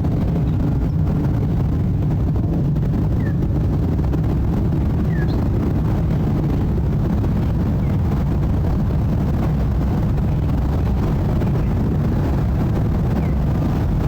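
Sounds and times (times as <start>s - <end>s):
jet airliner flying overhead: 0.0s - 14.0s.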